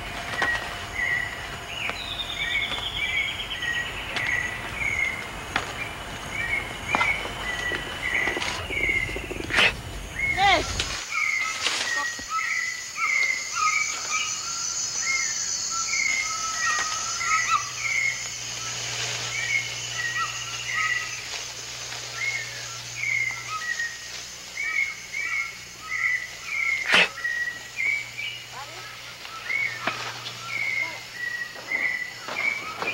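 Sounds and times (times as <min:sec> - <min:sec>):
birds chirping and whistling: 0:00.0 - 0:32.9
steady high hiss: 0:00.0 - 0:32.9.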